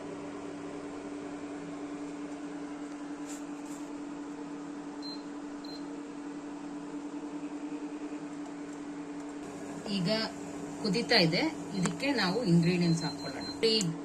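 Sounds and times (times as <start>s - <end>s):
stove fan hum: 0.0s - 14.0s.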